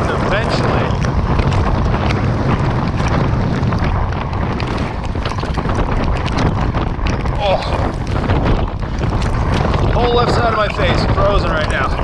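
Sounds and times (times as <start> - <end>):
crackles: 0.0 - 12.0
wind buffeting microphone: 0.0 - 12.0.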